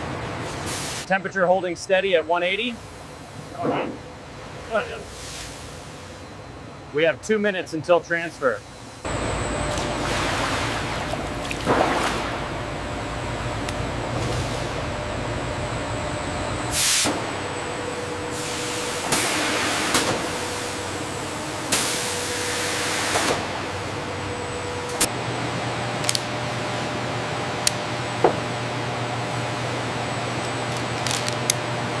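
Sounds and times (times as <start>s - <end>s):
machinery hum: 0.0s - 32.0s.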